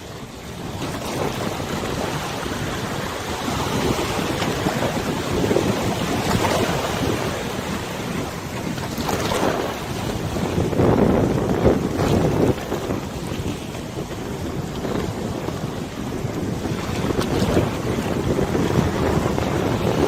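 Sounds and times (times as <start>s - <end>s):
river water washing: 0.0s - 20.0s
wind buffeting microphone: 0.0s - 20.0s.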